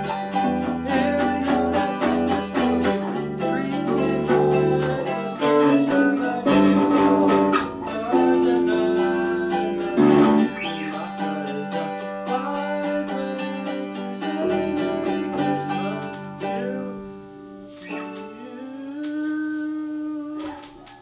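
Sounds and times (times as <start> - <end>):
mandolin picked fast: 0.0 - 17.0
electric bass guitar: 0.0 - 20.8.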